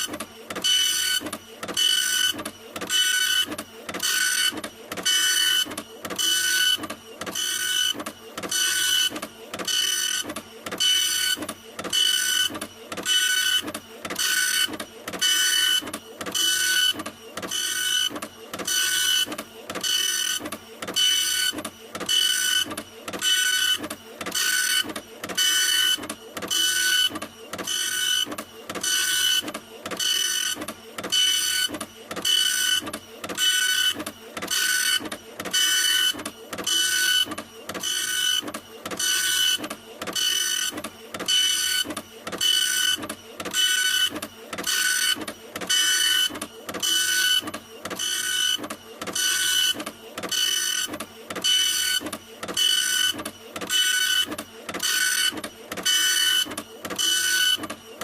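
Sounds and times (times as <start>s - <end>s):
printer head whirring: 0.0s - 58.0s.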